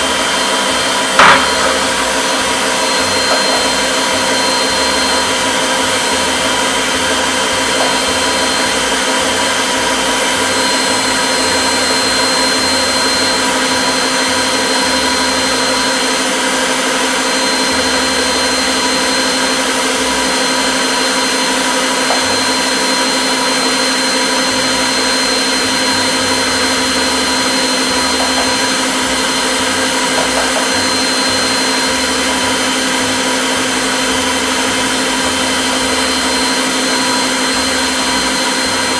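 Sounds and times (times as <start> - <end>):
stand mixer motor whine: 0.0 - 38.9.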